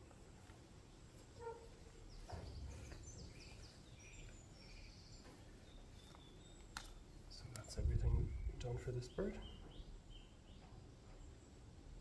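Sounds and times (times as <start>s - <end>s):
barn ambience: 0.0s - 12.0s
small birds chirping: 0.0s - 12.0s.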